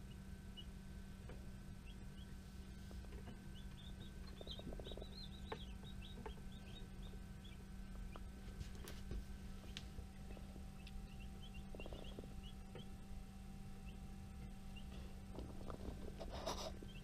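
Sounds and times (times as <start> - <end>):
baby chicks peeping: 0.0 - 17.0
low hum: 0.0 - 17.0.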